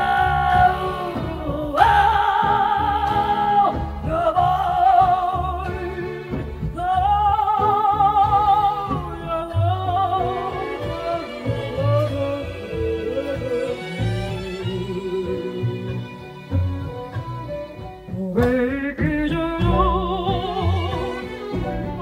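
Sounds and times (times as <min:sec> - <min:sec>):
low drum beats: 0:00.0 - 0:15.0, 0:16.5 - 0:22.0
soprano singing with vibrato: 0:00.0 - 0:16.3, 0:18.1 - 0:22.0
instrumental accompaniment: 0:00.0 - 0:22.0.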